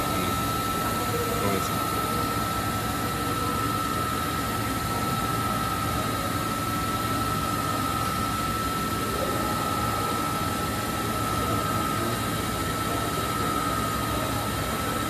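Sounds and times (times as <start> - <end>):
machine humming with high whine: 0.0 - 15.0.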